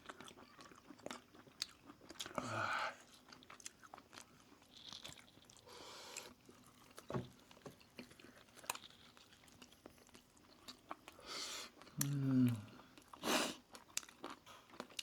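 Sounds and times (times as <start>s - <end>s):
crunchy chewing: 0.0s - 2.4s, 3.0s - 11.2s, 11.8s - 15.0s
mouth chewing food: 0.0s - 15.0s.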